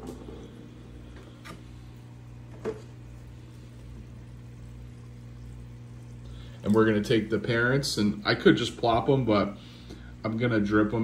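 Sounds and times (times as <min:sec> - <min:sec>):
aquarium equipment humming: 0:00.0 - 0:11.0.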